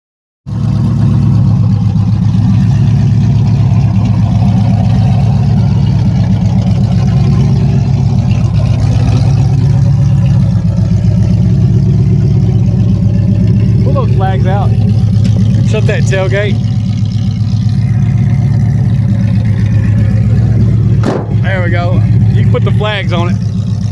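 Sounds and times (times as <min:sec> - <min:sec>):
truck engine idling: 0:00.5 - 0:23.9.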